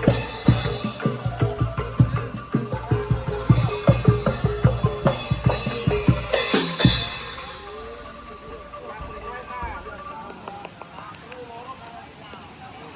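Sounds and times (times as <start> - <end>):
angklung band with drums: 0.0 - 11.3.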